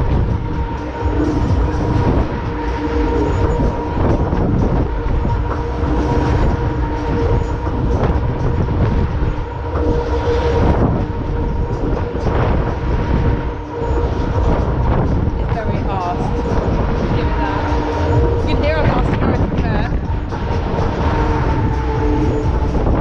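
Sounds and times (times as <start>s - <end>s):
fairground ride rumble and clatter: 0.0s - 23.0s
steady hum: 0.0s - 23.0s.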